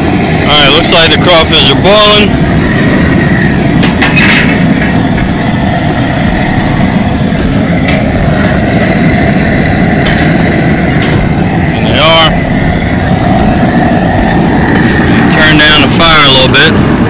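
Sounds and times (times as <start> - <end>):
propane burner flame rushing: 0.0 - 17.0.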